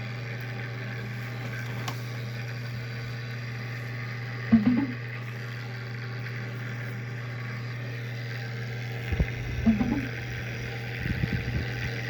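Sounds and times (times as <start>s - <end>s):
graphics card fans droning: 0.0s - 12.0s.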